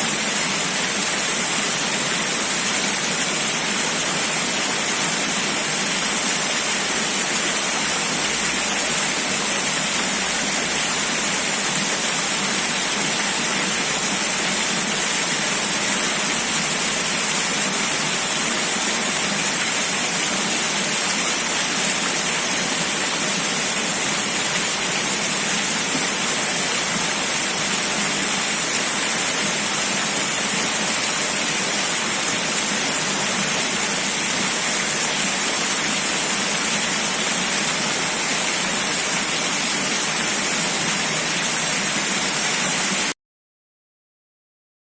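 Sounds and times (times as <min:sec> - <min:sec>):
rushing water: 0:00.0 - 0:43.2.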